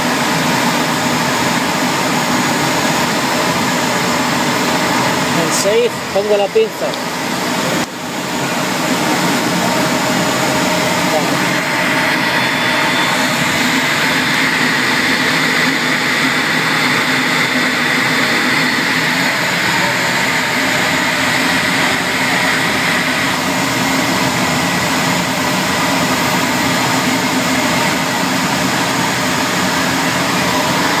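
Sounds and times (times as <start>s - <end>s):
jet engines whining: 0.0s - 31.0s.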